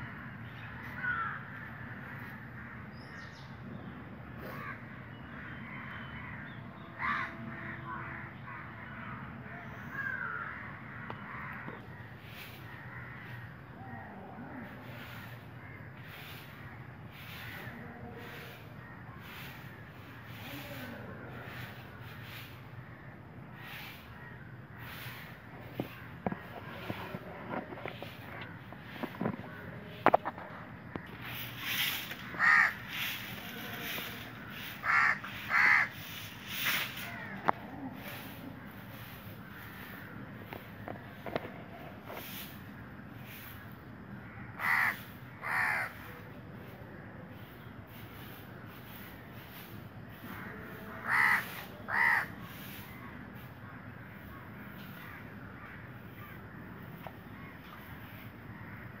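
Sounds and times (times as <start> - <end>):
crows cawing: 0.0 - 3.5, 4.4 - 41.5, 42.1 - 47.6, 50.1 - 59.0.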